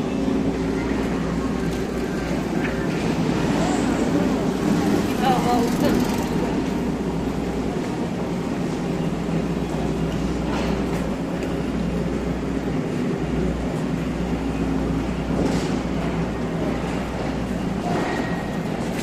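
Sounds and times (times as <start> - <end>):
train running with low hum: 0.0 - 19.0.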